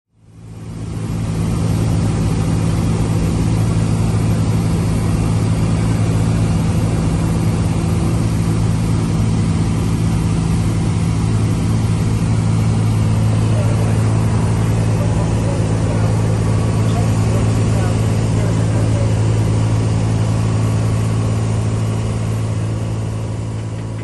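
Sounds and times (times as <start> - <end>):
aircraft engine and propeller droning: 0.2 - 24.0.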